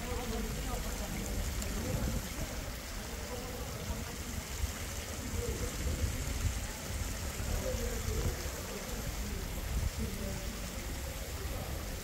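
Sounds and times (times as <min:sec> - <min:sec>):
faint distant voices: 0:00.0 - 0:12.0
fountain water splashing: 0:00.0 - 0:12.0.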